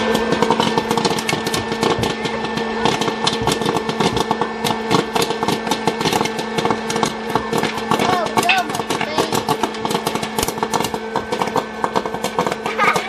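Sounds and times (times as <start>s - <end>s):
popcorn kernels popping: 0.0s - 13.0s
popcorn popper fan humming: 0.0s - 13.0s.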